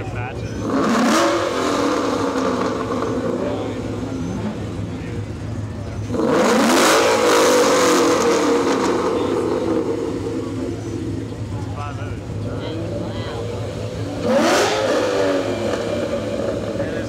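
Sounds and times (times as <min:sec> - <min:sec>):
car engine rumbling and revving: 0:00.0 - 0:17.0.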